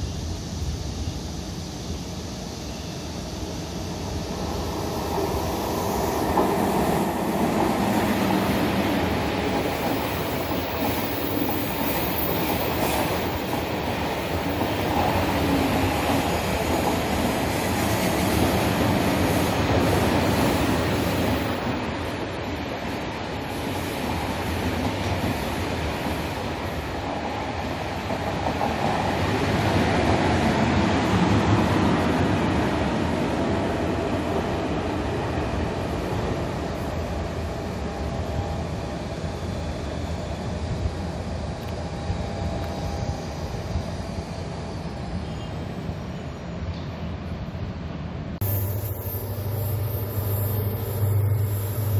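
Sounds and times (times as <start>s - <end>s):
trains rumbling on rails: 0.0s - 51.9s.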